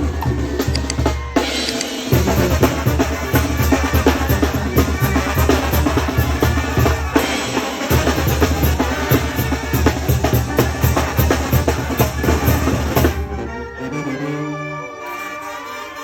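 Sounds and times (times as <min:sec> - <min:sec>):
street band percussion: 0:00.0 - 0:13.8.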